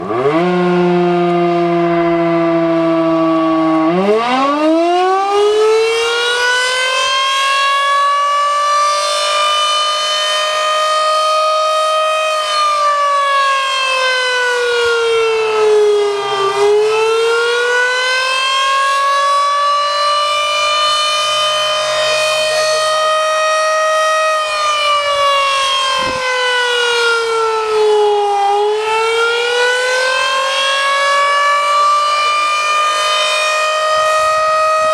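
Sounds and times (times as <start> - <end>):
civil defense siren wailing: 0.0 - 34.9.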